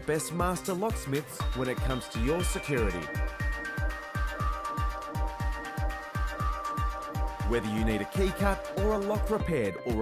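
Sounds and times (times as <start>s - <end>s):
electronic music: 0.0s - 10.0s
kick drum beat: 0.4s - 10.0s.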